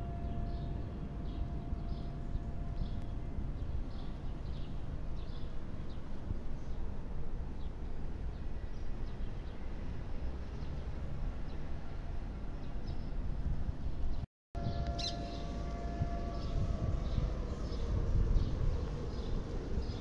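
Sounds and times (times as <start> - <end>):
steady low city rumble: 0.0 - 20.0.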